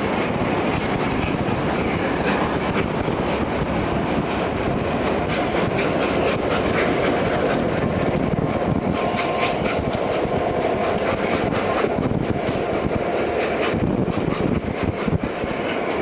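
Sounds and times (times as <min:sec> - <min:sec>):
train coaches rumbling: 0:00.0 - 0:16.0
train wheels clicking: 0:00.0 - 0:16.0.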